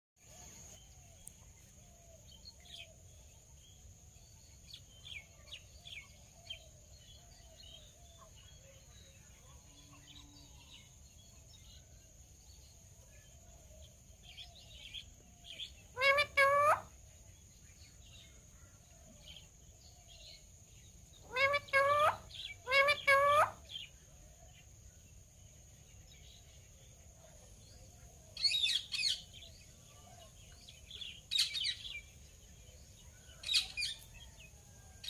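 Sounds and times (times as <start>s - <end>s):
faint bird chirps: 0.2s - 35.0s.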